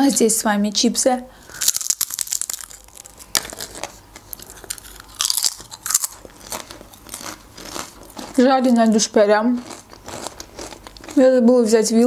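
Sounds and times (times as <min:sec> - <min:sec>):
potato chips crunching: 0:01.5 - 0:11.2.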